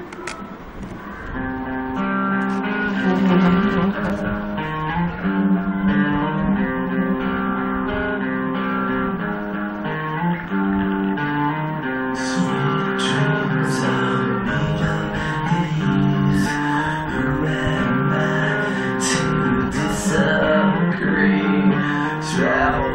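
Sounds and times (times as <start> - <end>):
plucked guitar chords: 0.0 - 22.9.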